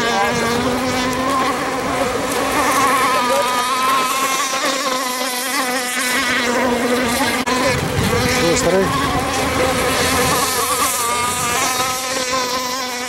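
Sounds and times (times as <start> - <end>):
model speedboat engine whining: 0.0 - 13.0.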